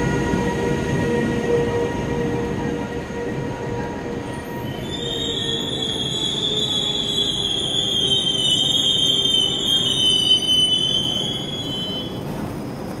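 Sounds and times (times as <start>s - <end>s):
train wheels squealing: 0.0s - 12.3s
train rumbling: 0.0s - 13.0s.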